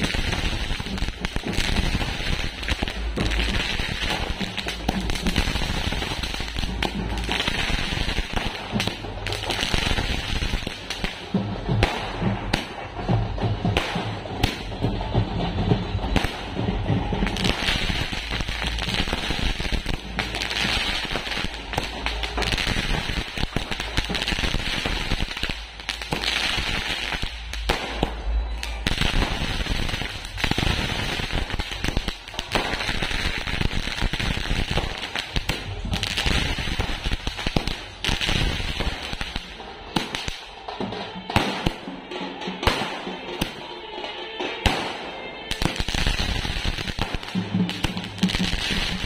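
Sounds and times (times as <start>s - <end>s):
fireworks cracking and popping: 0.0s - 49.0s
music: 0.0s - 49.0s.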